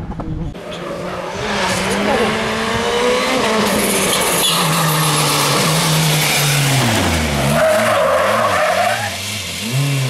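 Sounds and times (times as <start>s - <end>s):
rally car engine revving: 0.4s - 10.0s.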